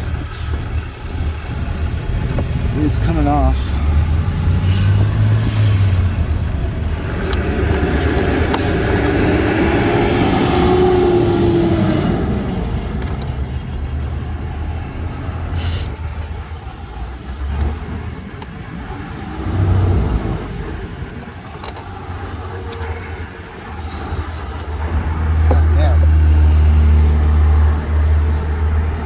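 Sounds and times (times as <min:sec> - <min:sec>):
motor vehicle engine rumble: 0:00.0 - 0:29.0.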